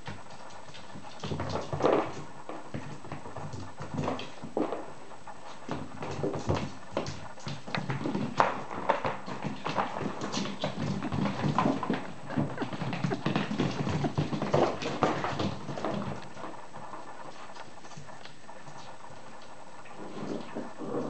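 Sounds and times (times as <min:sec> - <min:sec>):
puppies scuffling: 0:00.0 - 0:21.0
puppy paws clicking on hard floor: 0:00.0 - 0:21.0.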